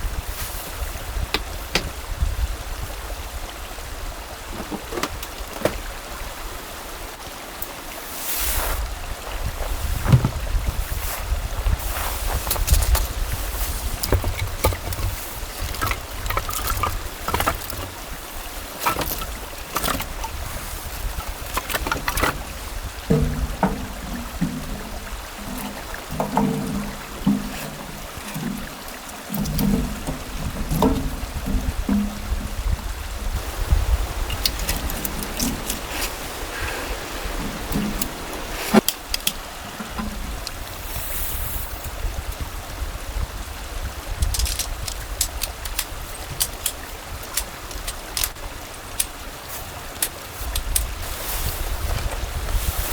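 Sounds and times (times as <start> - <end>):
mountain stream flowing: 0.0 - 52.9.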